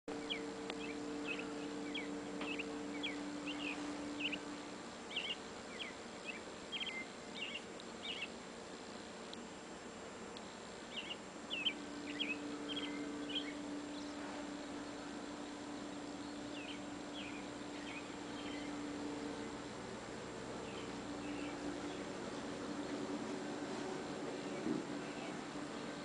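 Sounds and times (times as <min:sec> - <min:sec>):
small birds chirping: 0:00.1 - 0:09.7, 0:10.3 - 0:26.0
steady low hum: 0:00.1 - 0:26.0.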